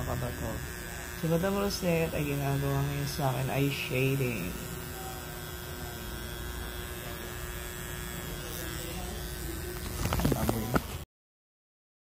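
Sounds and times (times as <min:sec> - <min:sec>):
makeup pen buzzing: 0:00.0 - 0:11.0.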